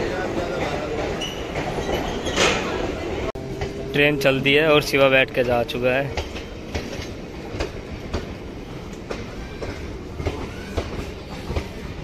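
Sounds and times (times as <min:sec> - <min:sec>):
train coaches rumbling: 0:00.0 - 0:12.0.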